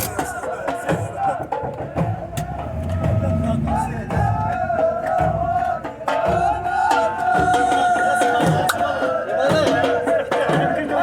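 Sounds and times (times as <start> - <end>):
hand-drum strikes: 0.0 - 11.0.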